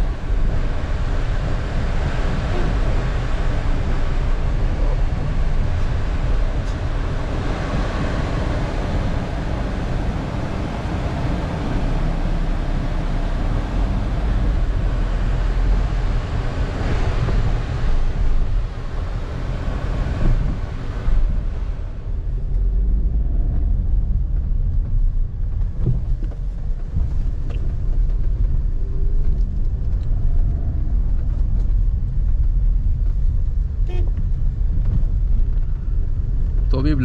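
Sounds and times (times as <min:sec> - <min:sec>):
engine and tyre rumble: 0:00.0 - 0:37.0.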